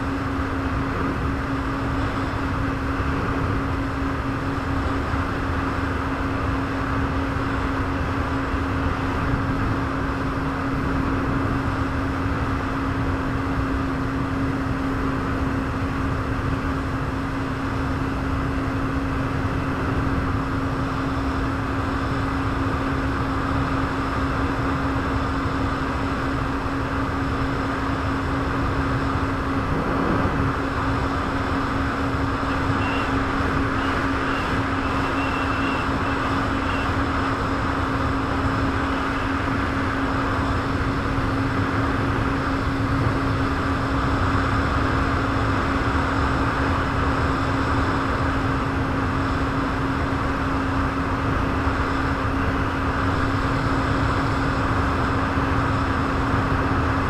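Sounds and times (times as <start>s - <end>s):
constant rushing noise: 0.0s - 57.0s
jet ski engine running: 0.0s - 57.0s.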